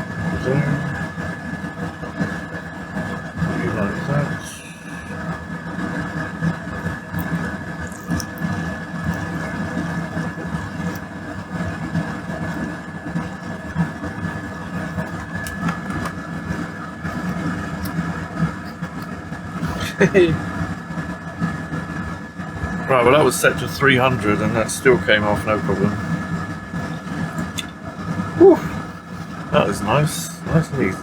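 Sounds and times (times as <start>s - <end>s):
extractor fan droning: 0.0s - 31.0s.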